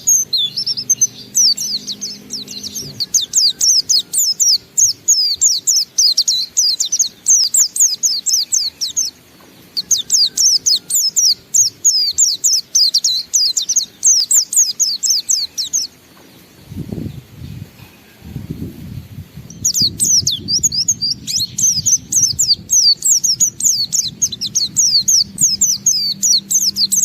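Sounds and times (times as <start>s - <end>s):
bird singing rapid high chirps: 0.0s - 17.4s, 19.4s - 27.0s.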